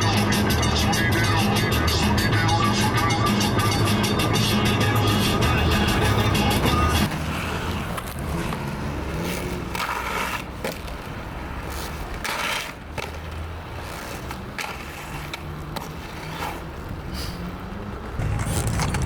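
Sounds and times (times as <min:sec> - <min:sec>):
skateboard clacks: 0:00.0 - 0:19.0
skateboard wheels rolling on pavement: 0:00.0 - 0:19.0.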